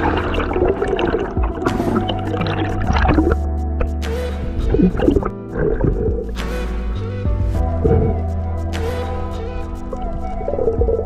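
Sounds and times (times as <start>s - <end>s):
background music with low bass: 0.0s - 11.0s.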